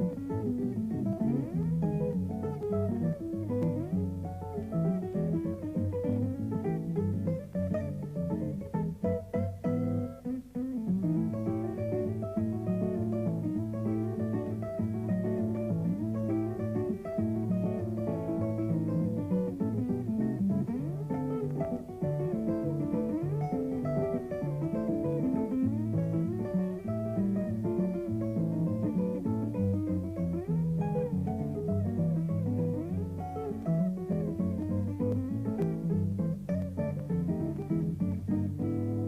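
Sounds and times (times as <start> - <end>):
instrumental guitar music: 0.0 - 39.0.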